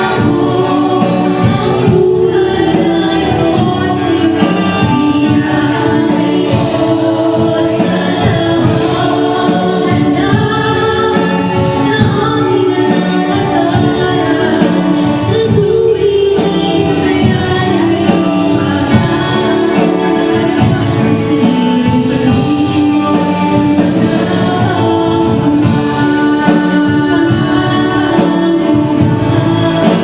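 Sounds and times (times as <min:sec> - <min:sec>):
accompanying music: 0:00.0 - 0:30.0
women singing gospel: 0:00.0 - 0:30.0.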